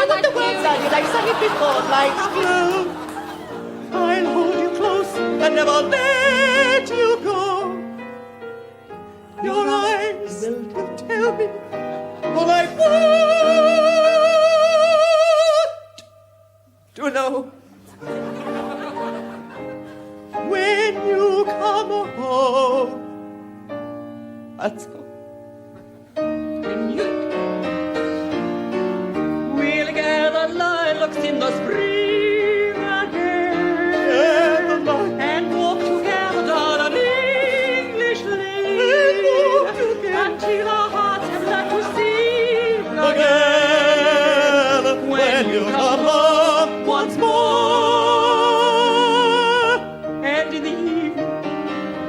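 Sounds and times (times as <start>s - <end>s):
soprano singing with vibrato: 0.0s - 8.0s, 9.4s - 17.7s, 20.4s - 23.0s, 28.6s - 51.6s
piano: 0.0s - 52.0s.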